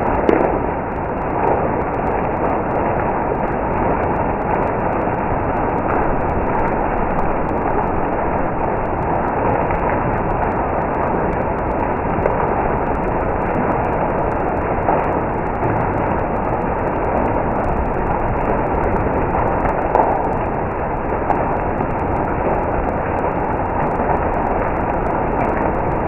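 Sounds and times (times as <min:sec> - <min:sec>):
hail falling hard: 0:00.0 - 0:26.0.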